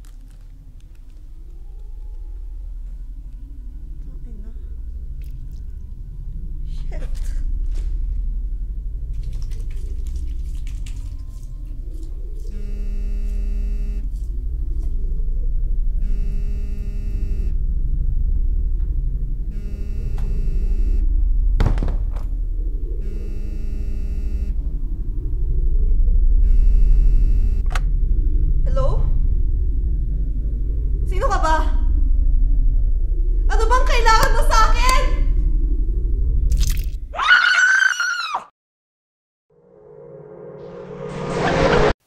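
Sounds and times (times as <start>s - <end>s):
low rumbling drone: 0.0s - 37.2s, 39.5s - 42.0s.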